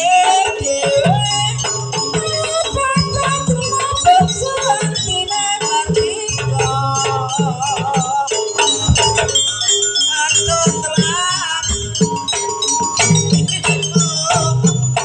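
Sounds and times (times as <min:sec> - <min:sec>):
drum strokes: 0:00.0 - 0:15.0
metallic percussion: 0:00.0 - 0:15.0
wavering melody line: 0:00.0 - 0:15.0.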